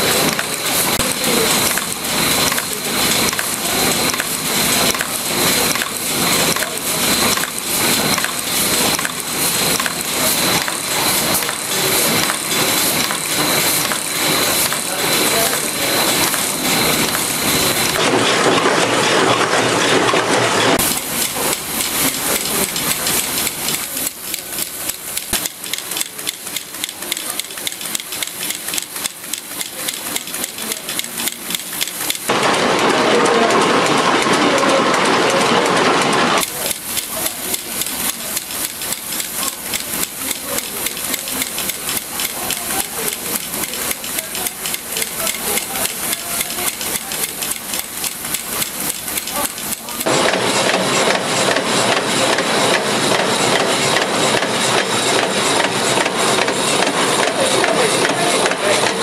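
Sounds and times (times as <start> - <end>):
machines metallic clatter: 0.0 - 59.0.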